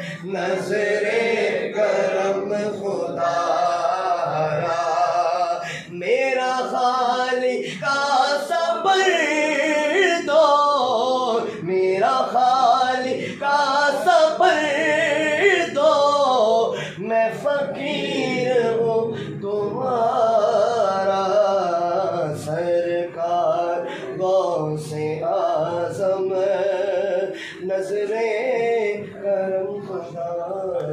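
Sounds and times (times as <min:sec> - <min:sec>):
men singing unaccompanied: 0:00.0 - 0:30.9.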